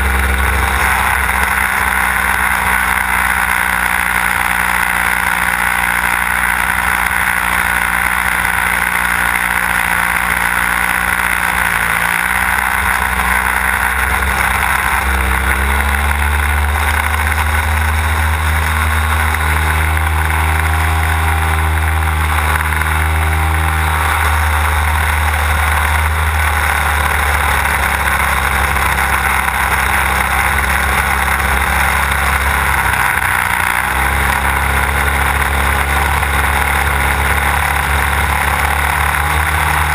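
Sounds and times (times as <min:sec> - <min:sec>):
model plane engine and propeller: 0:00.0 - 0:39.9.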